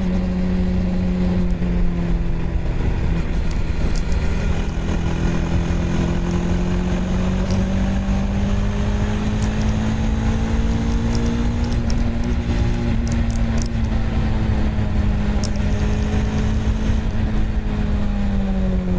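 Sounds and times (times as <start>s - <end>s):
motorcycle engine and exhaust: 0.0s - 18.9s
wind and road noise: 0.0s - 18.9s.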